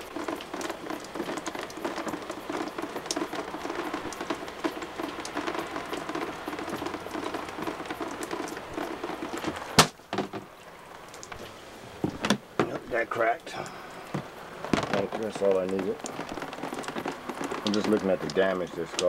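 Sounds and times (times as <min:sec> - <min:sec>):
water dripping and splashing: 0:00.0 - 0:19.0.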